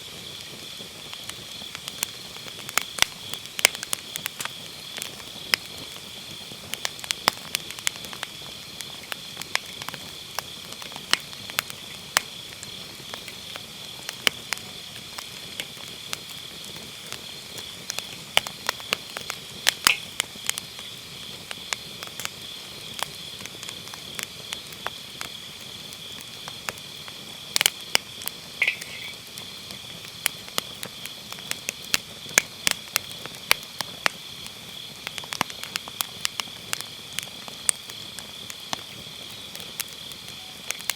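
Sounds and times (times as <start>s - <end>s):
insects chirping: 0.0s - 40.9s
wood fire crackling and popping: 0.0s - 40.9s.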